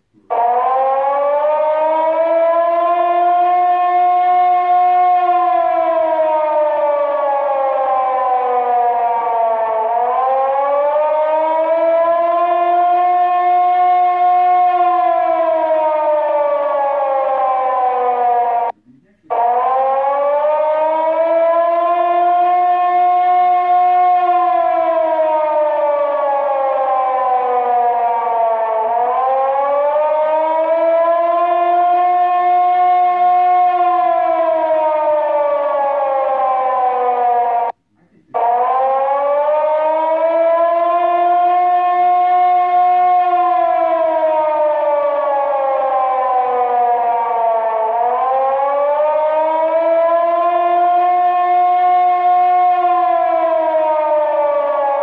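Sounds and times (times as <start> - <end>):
air-raid siren wailing: 0.0 - 55.0.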